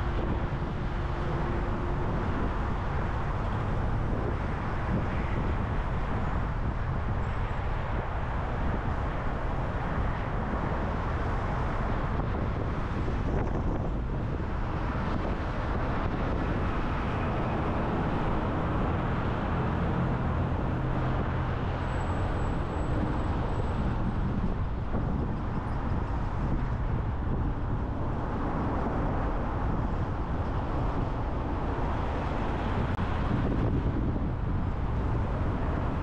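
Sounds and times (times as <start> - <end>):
car road and wind noise: 0.0 - 36.0.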